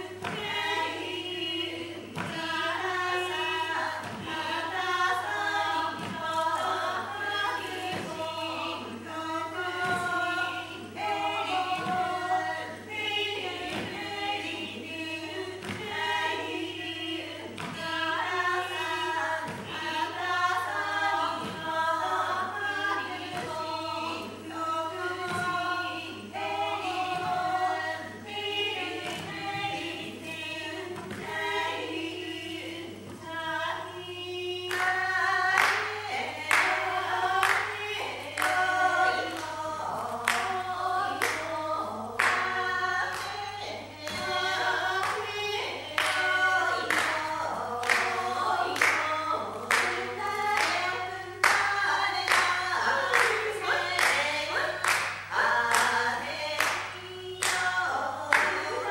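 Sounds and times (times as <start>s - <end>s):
group chanting: 0.0s - 58.9s
soft rhythmic thumps: 0.0s - 58.9s.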